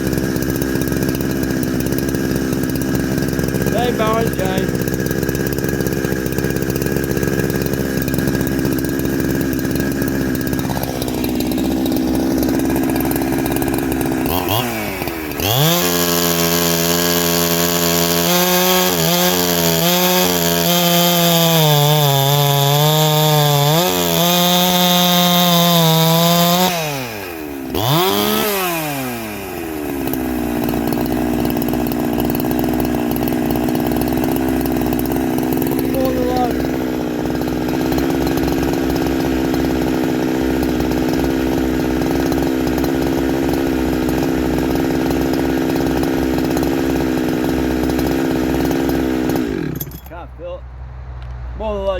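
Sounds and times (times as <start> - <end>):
chainsaw idling and revving: 0.0 - 51.9.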